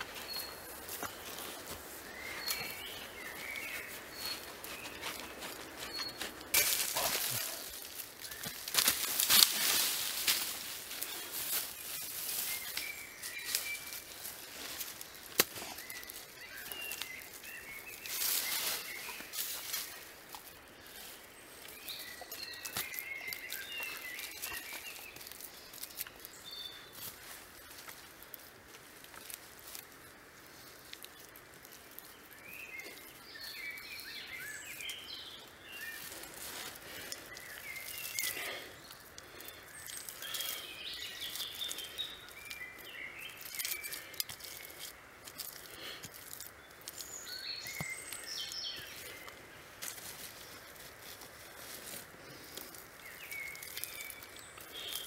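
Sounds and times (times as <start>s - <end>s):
songbirds calling: 0.0s - 55.0s.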